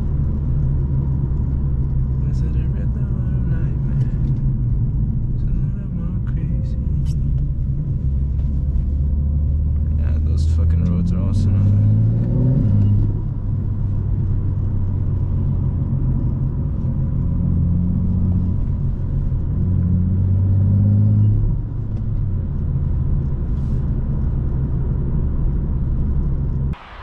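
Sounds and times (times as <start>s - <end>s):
car engine running while driving: 0.0s - 27.0s.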